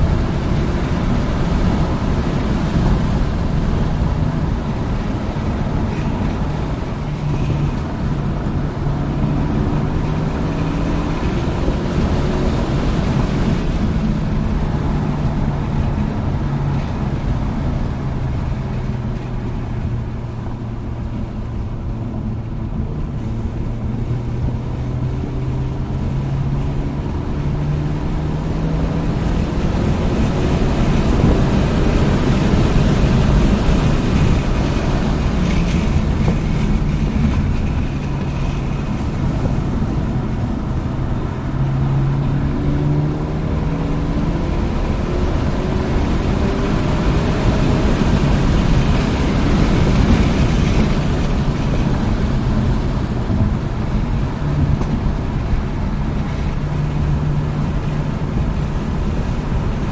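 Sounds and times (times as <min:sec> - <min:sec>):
car engine accelerating: 0:00.0 - 0:59.9
road noise: 0:00.0 - 0:59.9
wind noise: 0:00.0 - 0:59.9.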